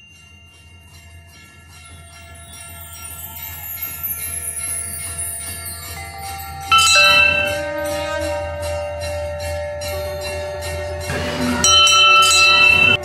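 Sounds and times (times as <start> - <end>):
rhythmic bell jingling: 0.0 - 13.0
temple bell ringing: 0.0 - 13.0.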